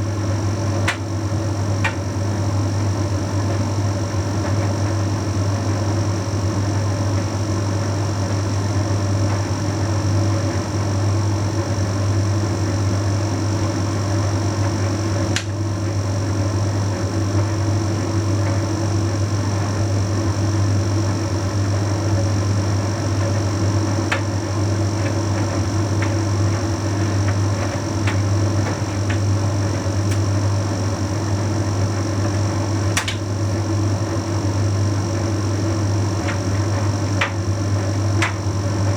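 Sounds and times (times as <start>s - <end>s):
tumble dryer humming: 0.0s - 38.9s.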